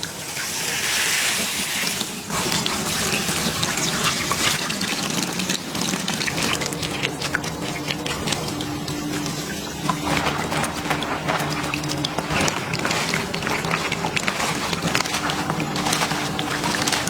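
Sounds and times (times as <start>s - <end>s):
water dripping: 1.9s - 17.0s
water splashing on hair: 2.3s - 17.0s.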